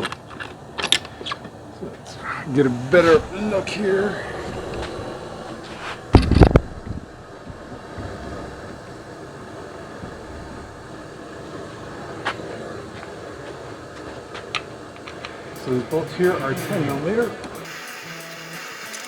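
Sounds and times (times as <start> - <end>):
low background hum: 0.0 - 17.6.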